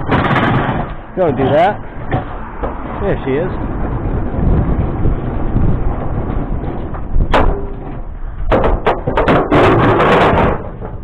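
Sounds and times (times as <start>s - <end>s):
hard bangs and clatter: 0.0s - 11.0s
low rumble: 0.0s - 11.0s.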